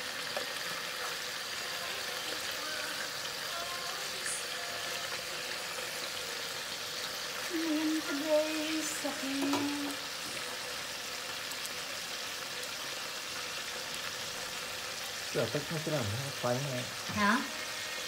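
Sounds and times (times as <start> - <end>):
meat sizzling in oil: 0.0 - 18.0.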